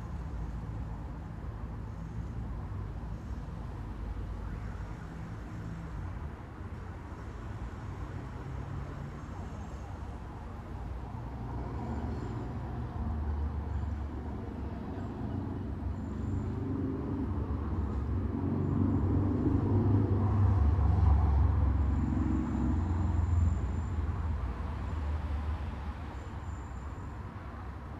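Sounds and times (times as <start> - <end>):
road traffic passing: 0.0 - 27.9.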